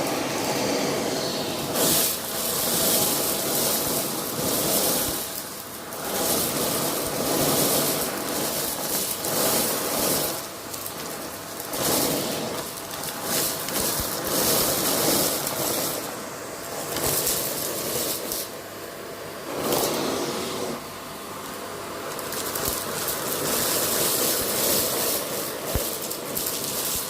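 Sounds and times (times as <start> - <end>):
vacuum cleaner suction hiss: 0.0 - 27.0.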